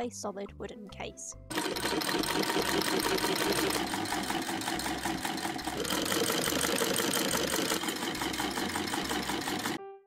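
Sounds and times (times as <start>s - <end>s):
sewing machine clattering: 1.5s - 9.8s.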